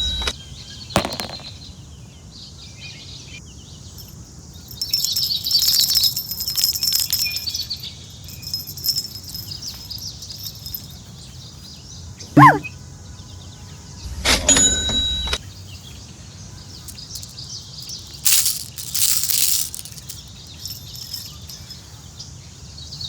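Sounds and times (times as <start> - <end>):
small birds chirping: 0.6 - 13.9, 15.4 - 23.0.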